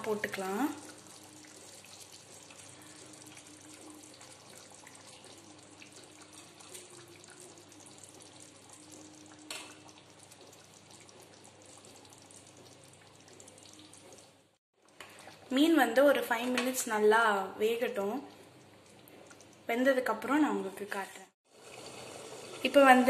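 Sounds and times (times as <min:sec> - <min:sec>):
curry simmering in a pan: 0:00.1 - 0:16.0, 0:18.1 - 0:20.6, 0:21.4 - 0:23.0.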